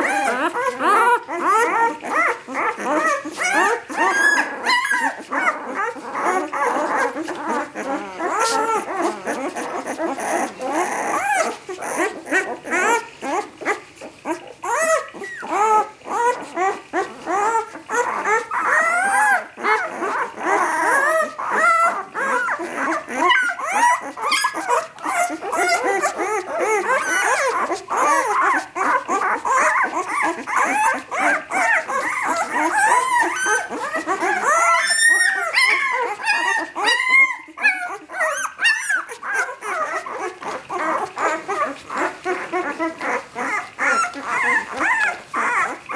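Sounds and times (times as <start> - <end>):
puppies whimpering and squealing: 0.0 - 45.9.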